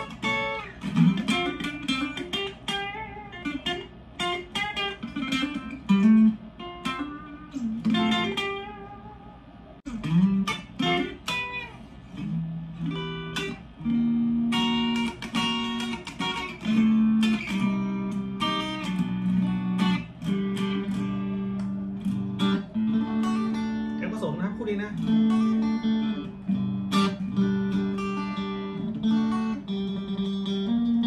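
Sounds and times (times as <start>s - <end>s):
clean electric guitar playing: 0.0s - 31.0s.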